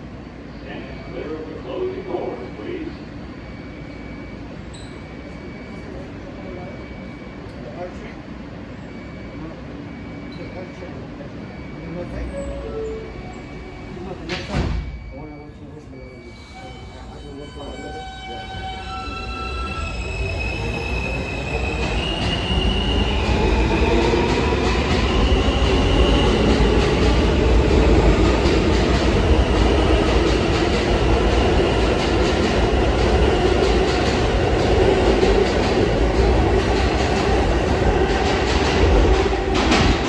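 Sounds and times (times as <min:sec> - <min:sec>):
subway traction motors whining: 0:00.0 - 0:40.0
subway train rumbling: 0:00.0 - 0:40.0.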